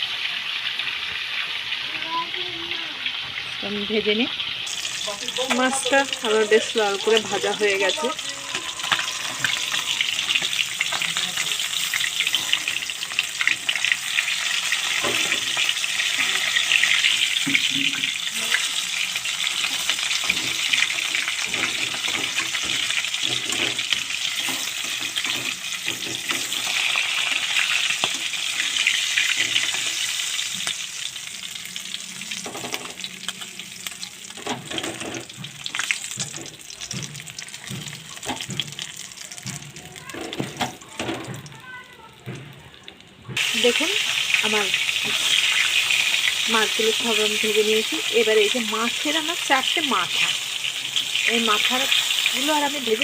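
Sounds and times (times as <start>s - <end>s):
fish sizzling in hot oil: 0.0s - 53.0s.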